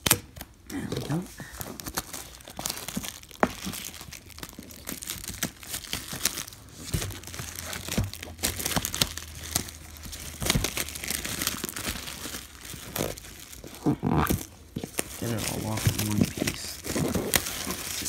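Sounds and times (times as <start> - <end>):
plastic wrap crinkling: 0.0 - 18.0
plastic wrap snapping: 0.0 - 18.0.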